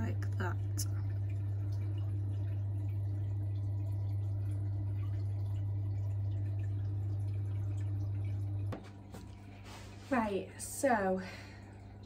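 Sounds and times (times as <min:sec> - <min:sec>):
low electrical hum: 0:00.0 - 0:12.0
water dripping and trickling: 0:00.0 - 0:12.0.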